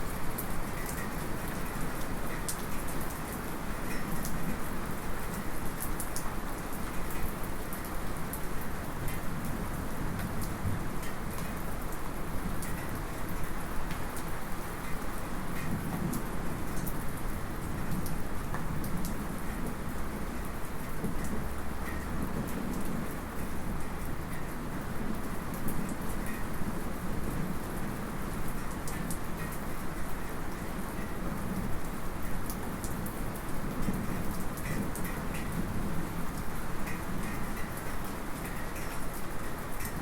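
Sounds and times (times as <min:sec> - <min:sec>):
light rain falling: 0:00.0 - 0:40.0.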